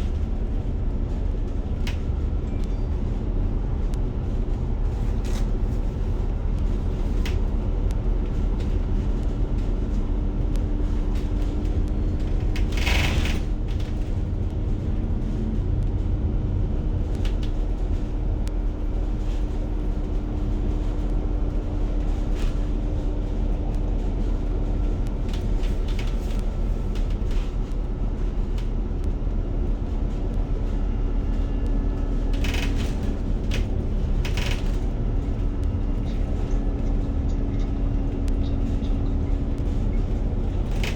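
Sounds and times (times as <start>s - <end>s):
bus rumbling in motion: 0.0s - 40.9s.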